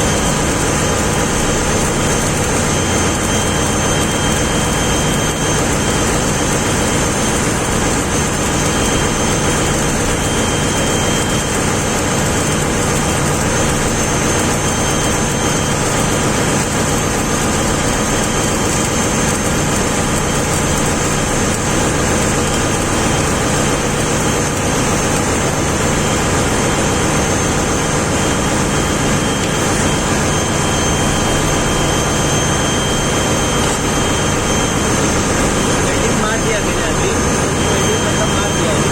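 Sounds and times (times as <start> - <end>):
high-pitched whines: 0.0 - 38.9
ship machinery drone: 0.0 - 38.9.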